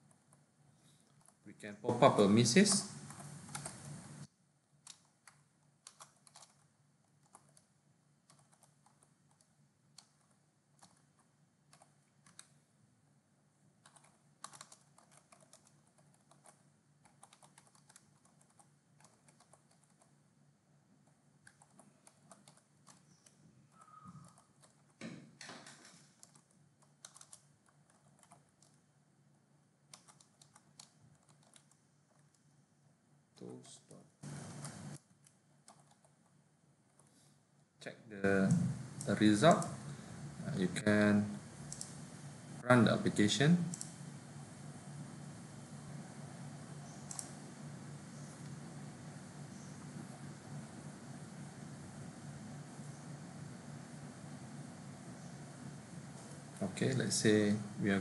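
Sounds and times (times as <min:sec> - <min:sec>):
faint keyboard typing: 0:00.0 - 0:12.6, 0:13.7 - 0:20.2, 0:21.0 - 0:28.9, 0:29.8 - 0:32.6, 0:33.3 - 0:37.4, 0:38.3 - 0:39.9, 0:41.6 - 0:42.3, 0:42.9 - 0:44.1, 0:45.0 - 0:58.0.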